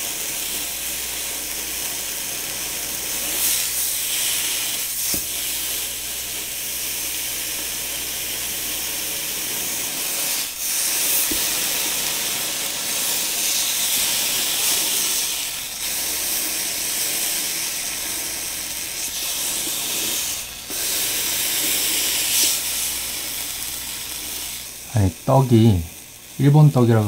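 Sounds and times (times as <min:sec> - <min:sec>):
rice cake sizzling in frying pan: 0:00.0 - 0:27.0.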